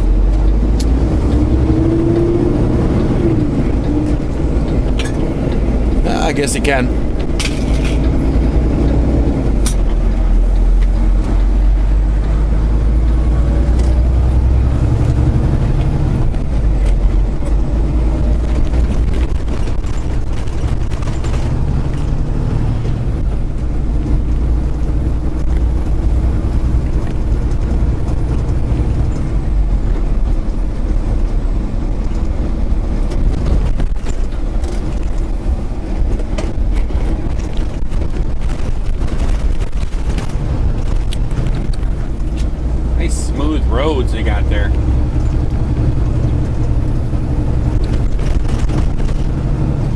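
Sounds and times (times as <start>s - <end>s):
diesel truck engine under load: 0.0s - 49.9s.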